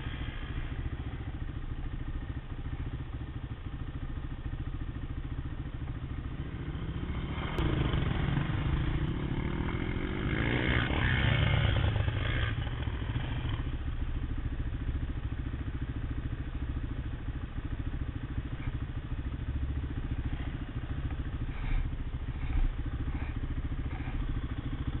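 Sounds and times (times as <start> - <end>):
quad engine idling: 0.0 - 25.0.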